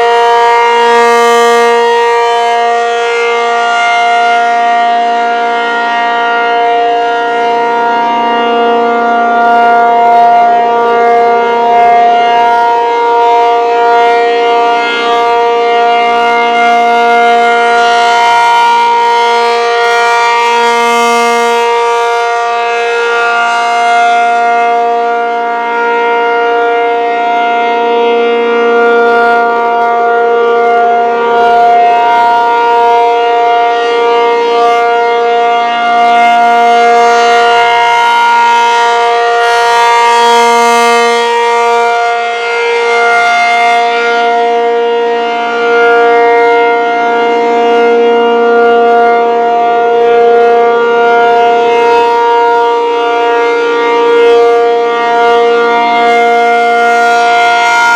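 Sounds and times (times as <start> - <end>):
rotating mechanical siren: 0.0 - 57.9.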